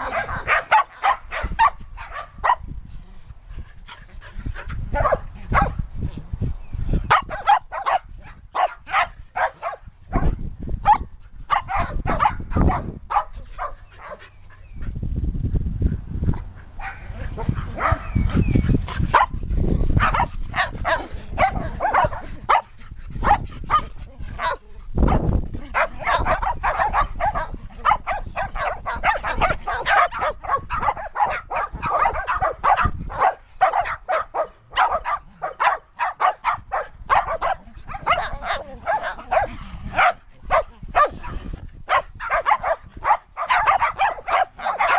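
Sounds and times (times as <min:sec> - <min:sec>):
dogs barking: 0:00.0 - 0:02.6, 0:05.0 - 0:05.8, 0:07.1 - 0:14.2, 0:16.8 - 0:18.4, 0:19.1 - 0:19.4, 0:20.0 - 0:44.9.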